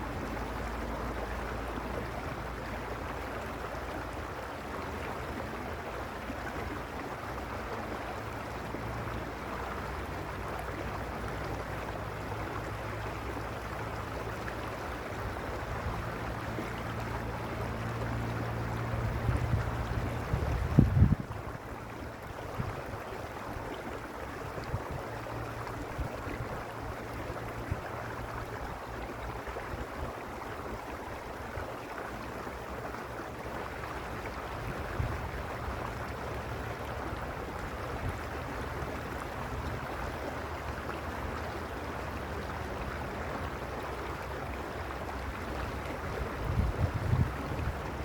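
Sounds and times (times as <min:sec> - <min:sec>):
stream flowing over stones: 0:00.0 - 0:48.0.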